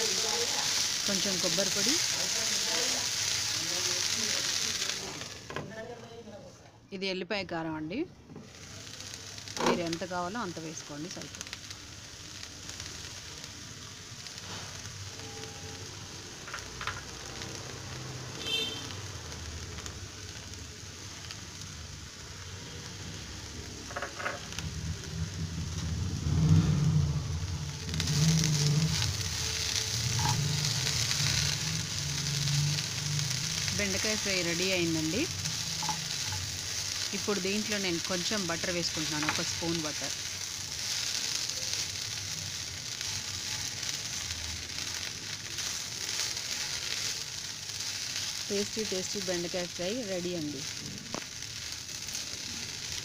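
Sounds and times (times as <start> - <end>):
okra sizzling: 0.0 - 53.0.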